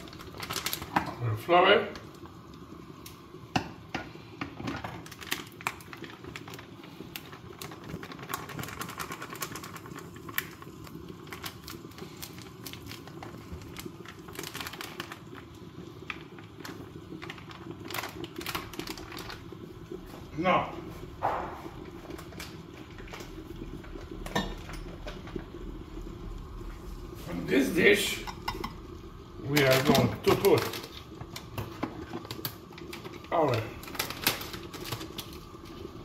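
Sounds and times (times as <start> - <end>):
low room hum: 0.0 - 36.0.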